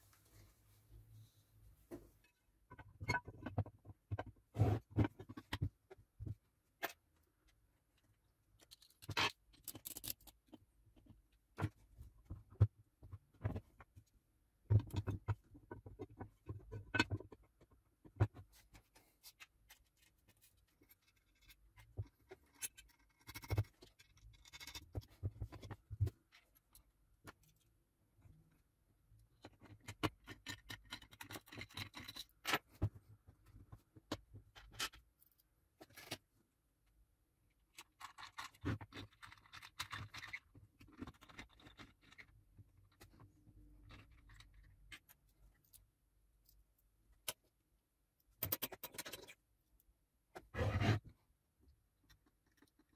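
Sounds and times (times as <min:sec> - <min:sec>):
small parts clicking and tapping: 0:05.0 - 0:28.6, 0:29.2 - 0:36.3, 0:36.9 - 0:50.5, 0:51.9 - 0:52.9.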